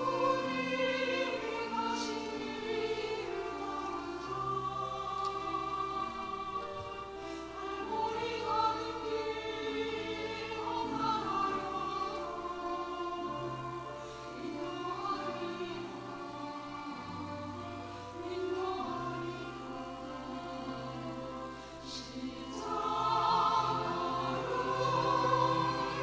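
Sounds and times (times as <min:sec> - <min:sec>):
church choir singing a hymn: 0:00.0 - 0:26.0
piano: 0:00.0 - 0:26.0.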